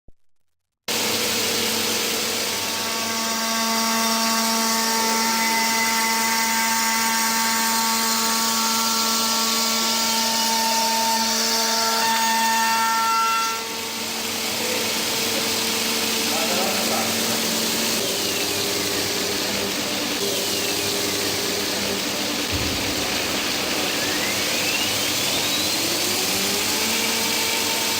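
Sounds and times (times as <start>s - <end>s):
glass milling machine whine: 0.9s - 27.9s.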